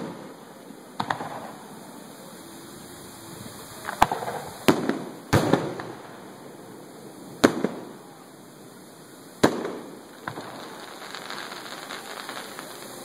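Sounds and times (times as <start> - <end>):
firework shells bursting: 0.0 - 2.0, 3.3 - 13.0.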